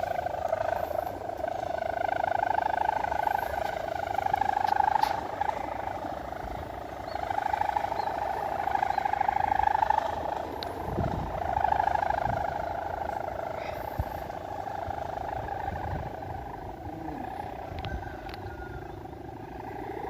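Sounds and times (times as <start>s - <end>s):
kite buzzing in wind: 0.0s - 20.0s.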